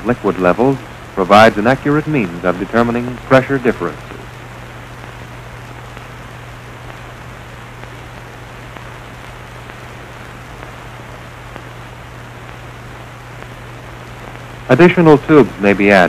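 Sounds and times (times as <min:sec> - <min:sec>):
constant low hum: 0:00.0 - 0:16.0
faint crackles: 0:00.0 - 0:16.0
steady hiss: 0:00.0 - 0:16.0.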